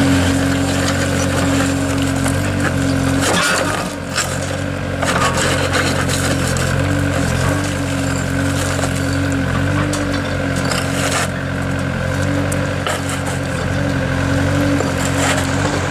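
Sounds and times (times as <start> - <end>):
grinding and scraping: 0.0 - 15.9
heavy machine engine running: 0.0 - 15.9.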